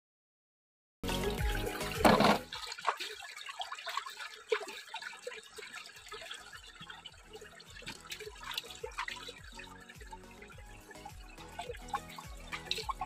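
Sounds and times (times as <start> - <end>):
water splashing and trickling: 1.0 - 13.0.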